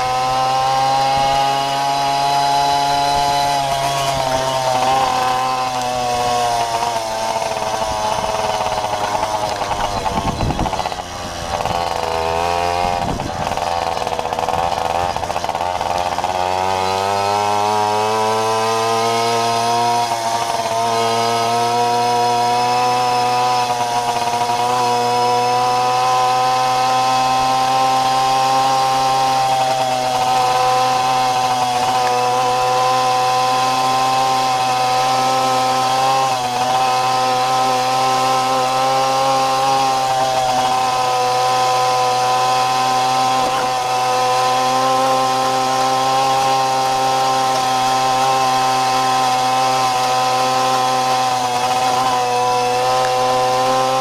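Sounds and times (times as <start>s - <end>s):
moped engine buzzing at high revs: 0.0s - 54.0s.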